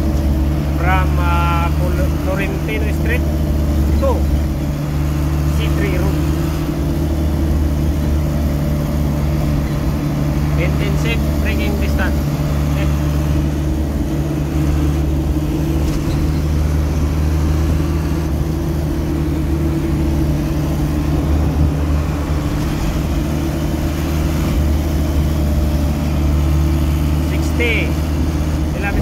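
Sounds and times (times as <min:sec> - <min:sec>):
road noise: 0:00.0 - 0:29.0
truck engine droning: 0:00.0 - 0:29.0.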